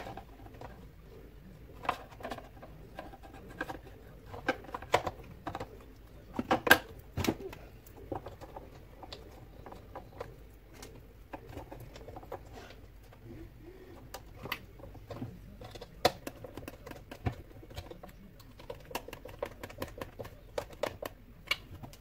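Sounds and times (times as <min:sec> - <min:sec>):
plastic parts clicking and tapping: 0:00.0 - 0:01.0, 0:01.7 - 0:22.0.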